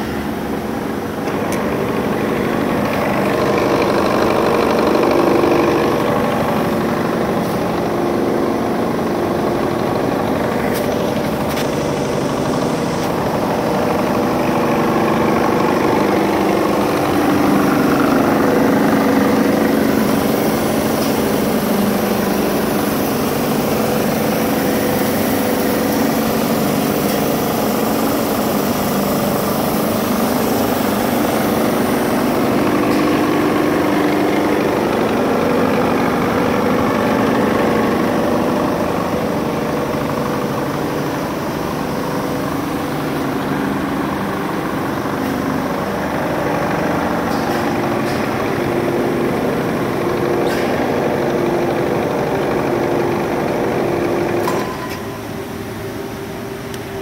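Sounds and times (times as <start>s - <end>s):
sanding machine motor hum: 0.0s - 50.4s.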